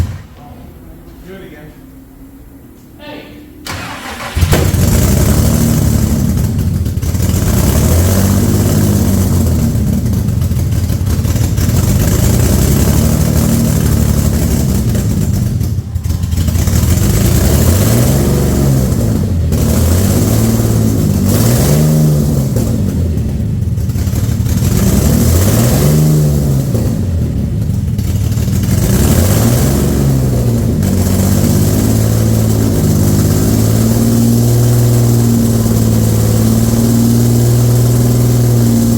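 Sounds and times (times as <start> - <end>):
car engine revving roughly: 3.7 - 23.1, 23.9 - 27.4, 28.1 - 38.9.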